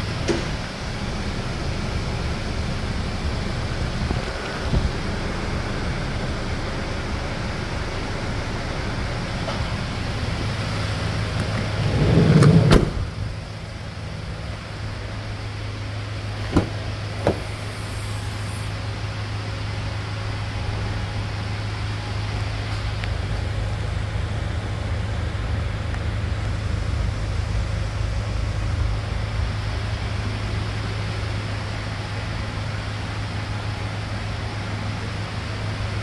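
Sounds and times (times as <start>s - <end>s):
van engine humming: 0.0s - 36.0s.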